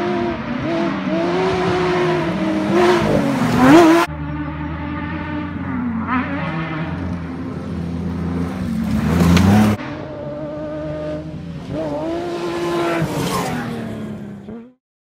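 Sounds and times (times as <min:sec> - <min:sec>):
buggy engines at high revs: 0:00.0 - 0:14.8.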